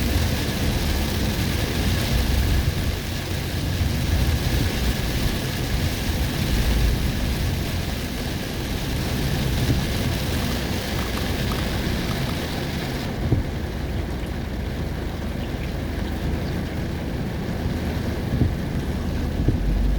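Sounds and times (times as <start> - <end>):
heavy rain beating on a vehicle: 0.0 - 19.9
road and wind rumble: 0.0 - 19.9.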